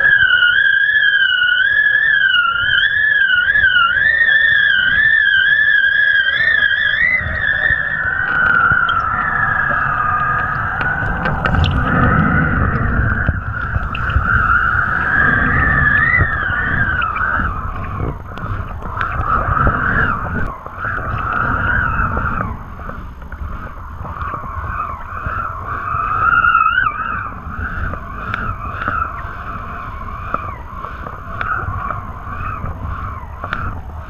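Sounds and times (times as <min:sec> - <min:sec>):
wind buffeting rumble: 0:00.0 - 0:34.0
wind whistling across camera: 0:00.0 - 0:34.0
water rushing: 0:03.0 - 0:32.2.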